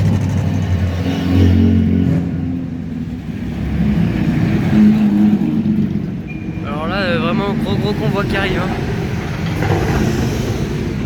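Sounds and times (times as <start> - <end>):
sports car engines passing: 0.0 - 11.0.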